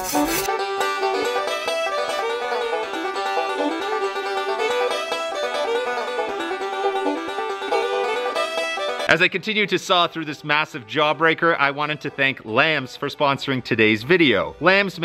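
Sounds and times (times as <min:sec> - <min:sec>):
bluegrass banjo picking: 0:00.0 - 0:12.9.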